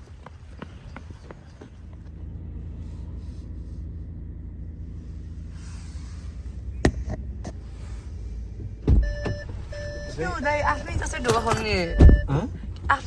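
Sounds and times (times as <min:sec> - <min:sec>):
car engine rumbling: 0:00.3 - 0:13.0.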